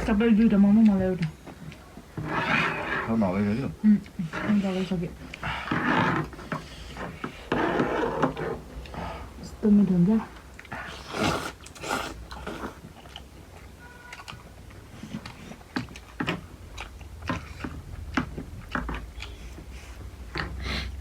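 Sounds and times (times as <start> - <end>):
chewing food: 0.0 - 21.0
low steady hum: 0.0 - 21.0.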